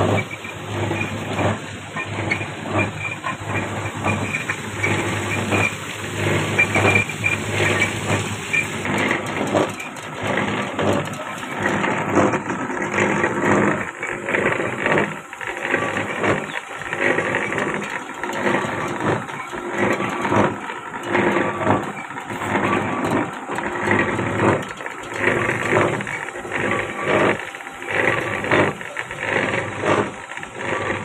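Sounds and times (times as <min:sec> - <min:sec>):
machine rumble and clatter: 0:00.0 - 0:31.0.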